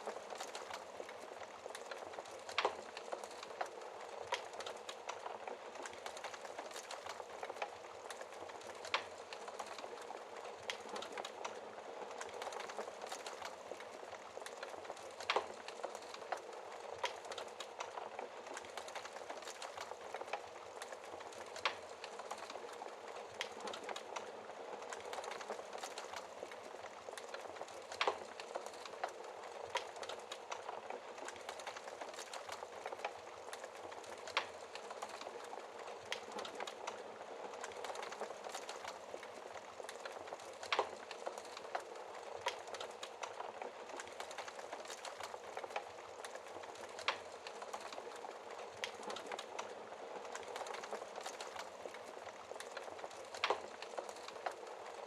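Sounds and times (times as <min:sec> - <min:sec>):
fire popping: 0:00.0 - 0:55.0
wood fire hissing and crackling: 0:00.0 - 0:55.0.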